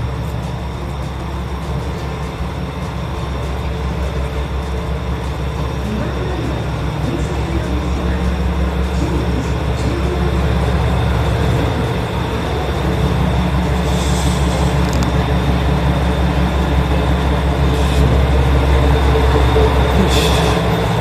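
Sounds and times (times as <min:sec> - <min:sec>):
diesel railcar engine rumbling: 0:00.0 - 0:21.0.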